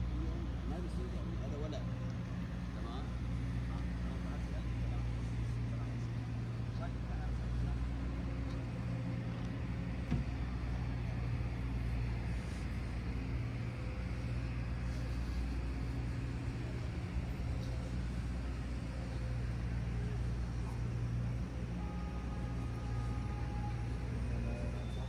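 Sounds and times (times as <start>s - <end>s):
city traffic drone: 0.0s - 25.0s
constant hum: 0.0s - 25.0s.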